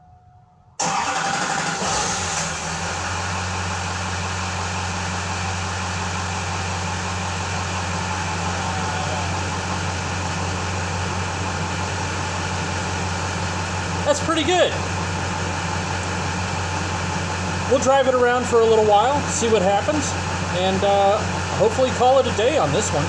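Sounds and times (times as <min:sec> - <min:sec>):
diesel engine starting and idling: 0:00.8 - 0:23.0.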